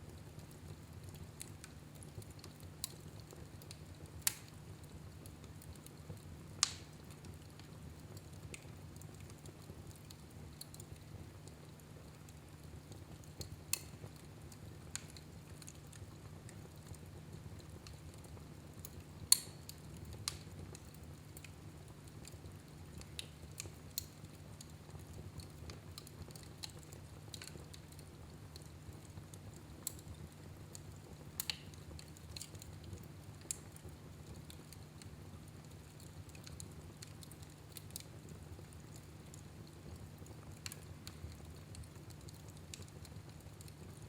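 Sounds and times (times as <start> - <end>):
wood fire popping and snapping: 0.0 - 44.0.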